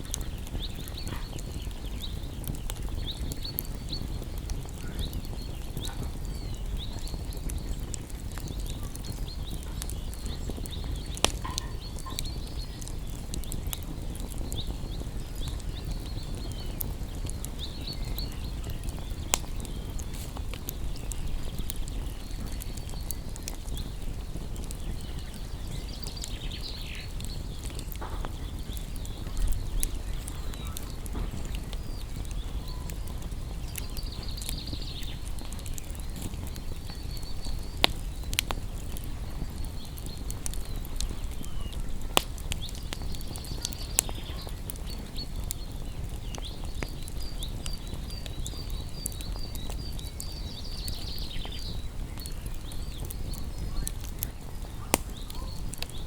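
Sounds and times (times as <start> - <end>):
fire low rumble: 0.0 - 56.0
wood fire crackling: 0.0 - 56.0
faint high chirping calls: 0.1 - 56.0.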